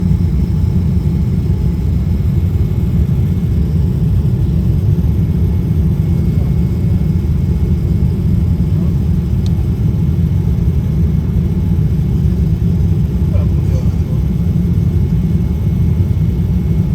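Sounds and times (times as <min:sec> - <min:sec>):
airplane cabin engine rumble: 0:00.0 - 0:16.9.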